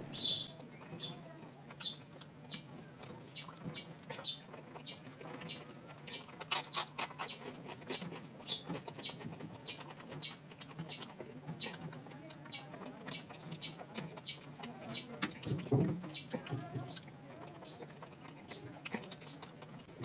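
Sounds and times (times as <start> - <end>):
chewing smacks and clicks: 0.8 - 20.0.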